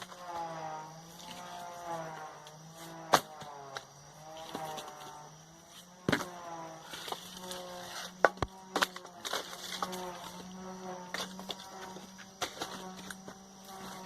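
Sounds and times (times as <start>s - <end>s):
insect buzzing: 0.0s - 14.0s.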